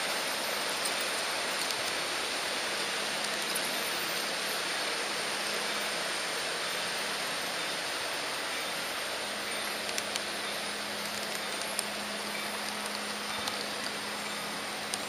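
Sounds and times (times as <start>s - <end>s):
faint hum: 0.0s - 15.0s
model train wheels on rails: 0.0s - 15.0s.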